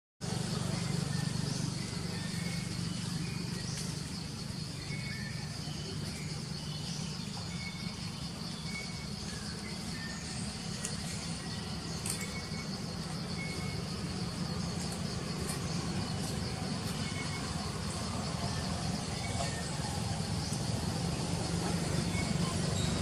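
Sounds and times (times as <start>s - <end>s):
insect drone: 0.2s - 23.0s
bird chirps: 0.4s - 23.0s.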